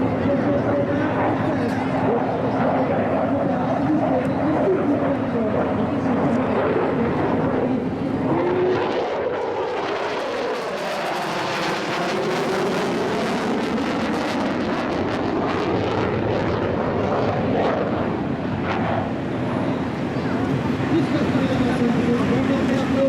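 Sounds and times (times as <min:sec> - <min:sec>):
jet fighter flying past: 0:00.0 - 0:23.0.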